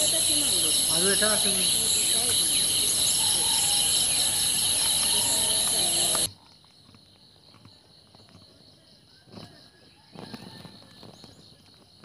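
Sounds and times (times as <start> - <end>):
insects chorus pulsing: 0.0 - 12.0.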